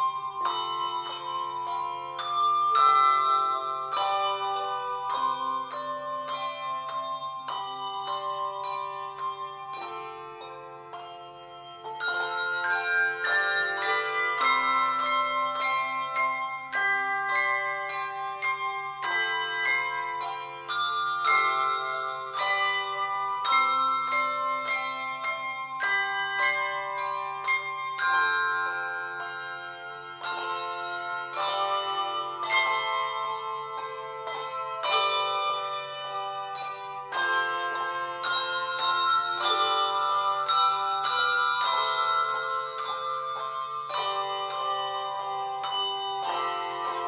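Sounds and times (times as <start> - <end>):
handbells ringing chords: 0.0 - 47.0.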